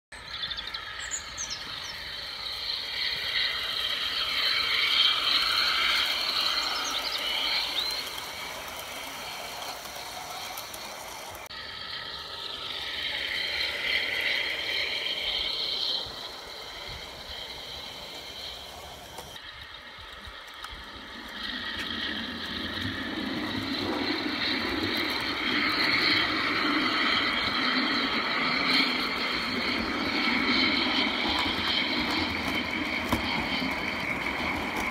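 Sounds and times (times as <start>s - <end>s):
model locomotive whine: 0.2s - 34.9s.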